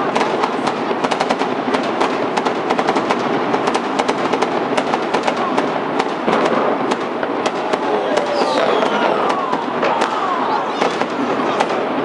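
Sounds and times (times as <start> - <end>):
fireworks popping and banging: 0.0 - 12.0.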